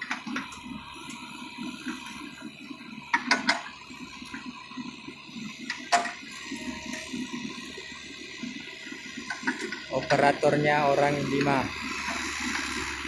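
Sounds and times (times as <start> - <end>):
excavator engine rumbling: 0.0 - 13.0.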